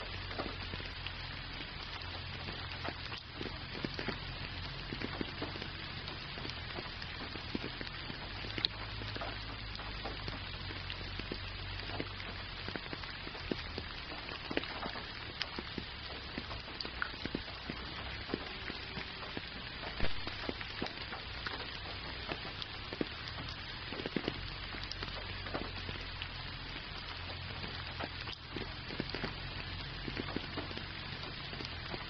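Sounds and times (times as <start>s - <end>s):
low steady rumble: 0.0s - 32.0s
rain falling: 0.0s - 32.0s.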